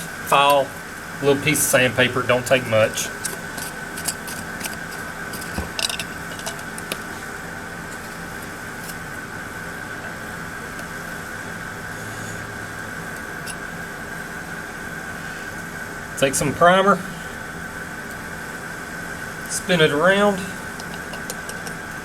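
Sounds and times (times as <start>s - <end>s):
constant high whine: 0.0s - 22.0s
steady mechanical hum: 0.0s - 22.0s.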